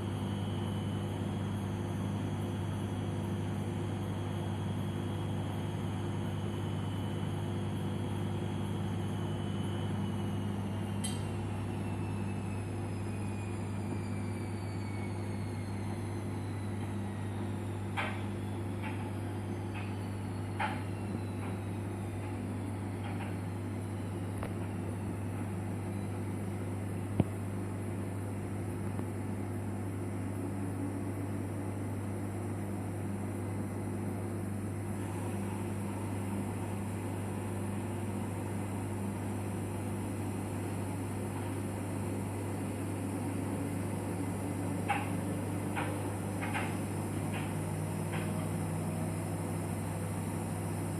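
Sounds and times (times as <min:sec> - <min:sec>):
washing machine humming: 0:00.0 - 0:50.9.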